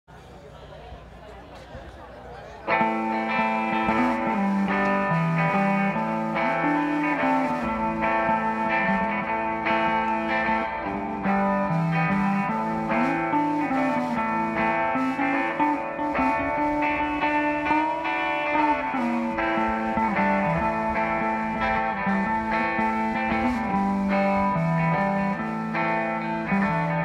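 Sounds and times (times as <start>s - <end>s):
electric guitars: 2.6s - 27.0s
live rock band playing: 2.7s - 27.0s.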